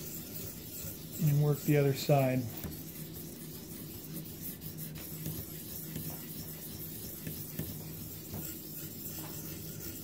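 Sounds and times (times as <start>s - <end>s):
sharpening stone rubbing on blade: 0.0s - 10.0s.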